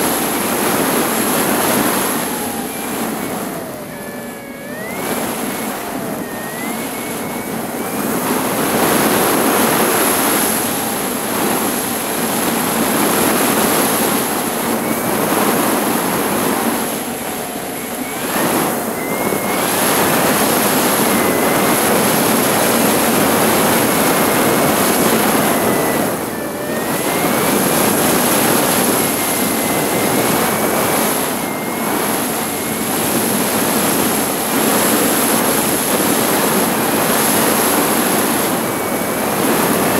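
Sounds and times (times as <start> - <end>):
heavy wind rushing: 0.0 - 39.9
motorcycle engine whine: 0.0 - 39.9.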